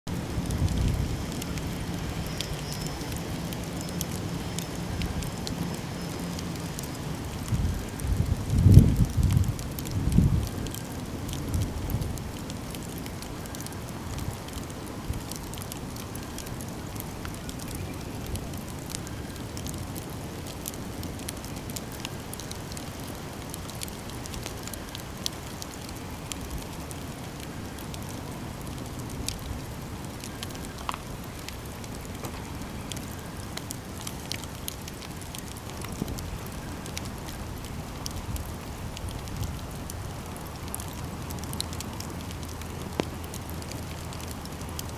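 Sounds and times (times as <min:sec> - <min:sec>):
campfire crackling and popping: 0:00.1 - 0:44.9.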